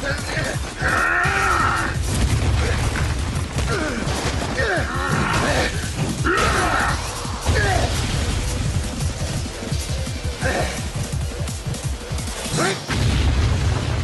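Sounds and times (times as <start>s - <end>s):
action soundtrack music: 0.0s - 14.0s.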